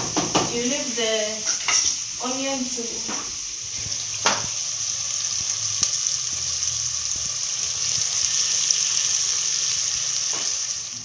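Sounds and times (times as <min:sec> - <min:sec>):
meat and onions sizzling in oil: 0:00.0 - 0:11.0.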